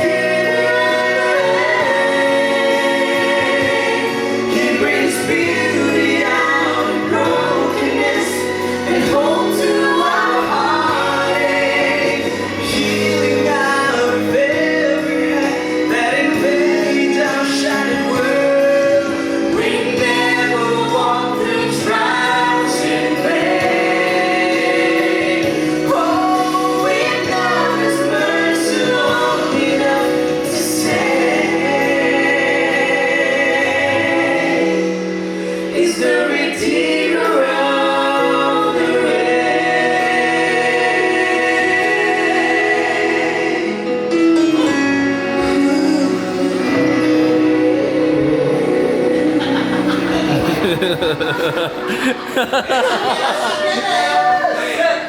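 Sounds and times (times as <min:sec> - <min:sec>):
vocal group singing in harmony: 0:00.0 - 0:55.0.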